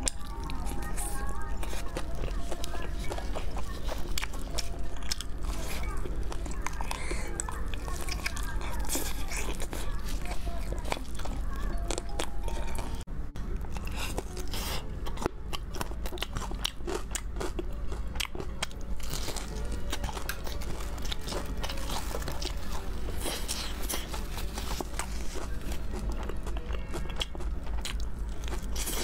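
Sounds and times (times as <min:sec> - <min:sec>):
crunchy chewing of fried chicken: 0:00.0 - 0:29.0.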